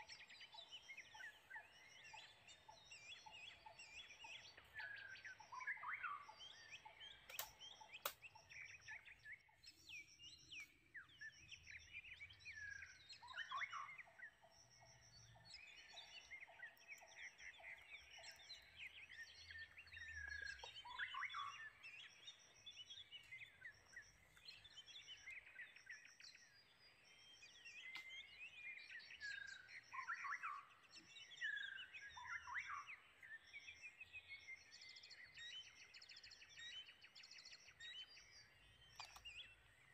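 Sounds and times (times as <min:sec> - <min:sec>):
birds chirping and calling: 0:00.0 - 0:39.9
lower pulsed bird notes: 0:00.0 - 0:39.9.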